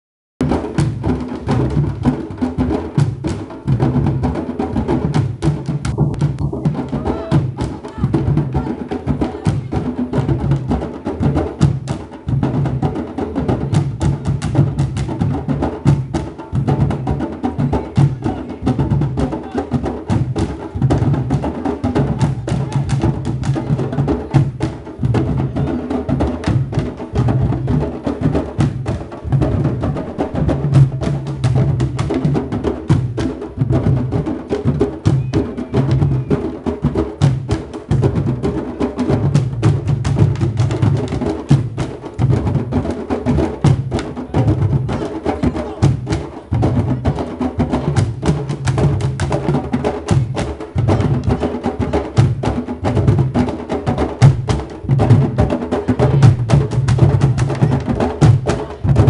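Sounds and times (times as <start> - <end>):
low barrel drum tones: 0.4 - 59.0.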